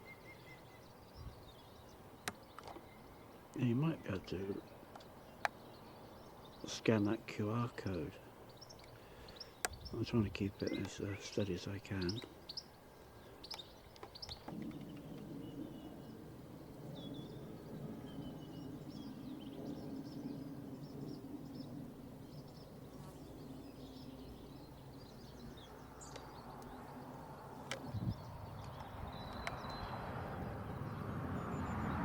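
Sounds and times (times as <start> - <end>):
small birds chirping and singing: 0.0 - 32.0.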